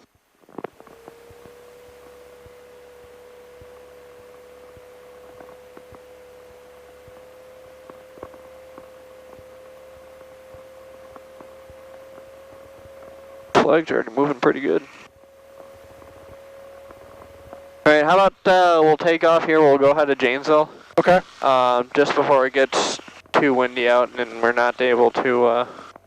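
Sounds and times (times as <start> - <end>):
steady pure tone: 0.0 - 26.0.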